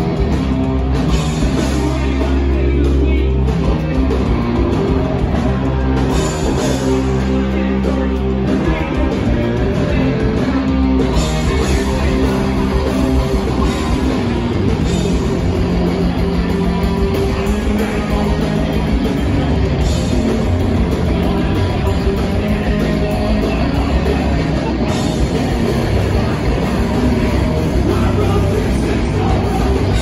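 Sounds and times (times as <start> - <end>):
punk band playing: 0.0 - 30.0.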